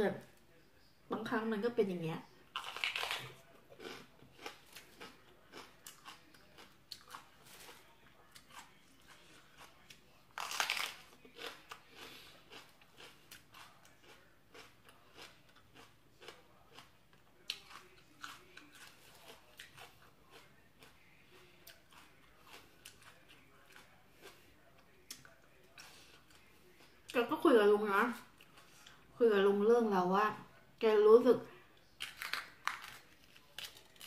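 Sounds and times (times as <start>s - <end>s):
person chewing crunchy vegetables: 2.5s - 27.2s, 28.2s - 29.1s, 32.0s - 34.0s.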